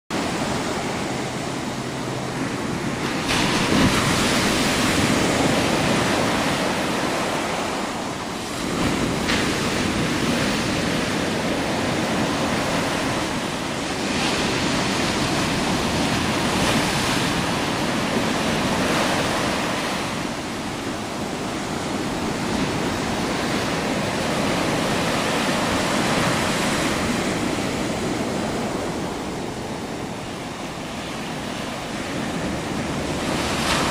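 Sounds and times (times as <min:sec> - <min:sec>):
ocean surf breaking on beach: 0:00.1 - 0:33.9.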